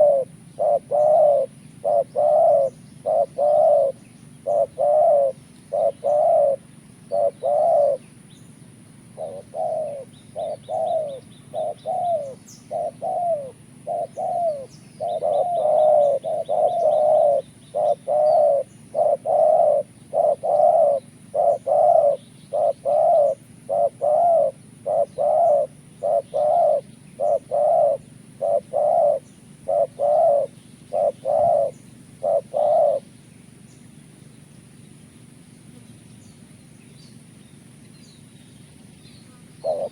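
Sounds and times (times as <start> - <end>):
doves cooing: 0.0 - 36.0, 39.2 - 39.9.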